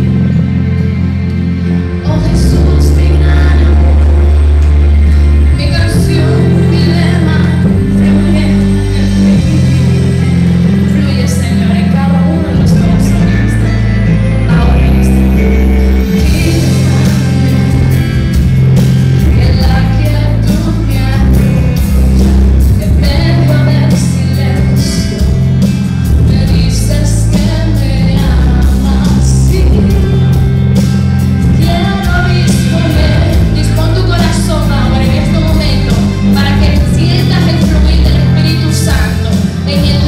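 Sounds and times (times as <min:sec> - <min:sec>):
person singing: 0:00.0 - 0:30.8, 0:31.4 - 0:40.0
rock band playing: 0:00.0 - 0:40.0.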